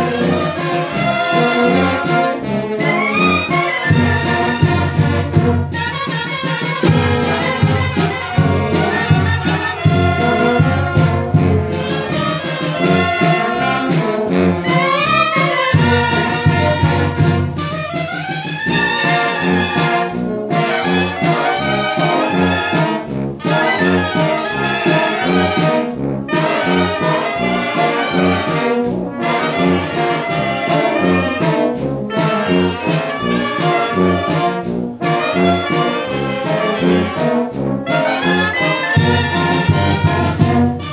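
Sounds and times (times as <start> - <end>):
clarinets and saxophones melody: 0.0 - 40.9
wind band playing: 0.0 - 40.9.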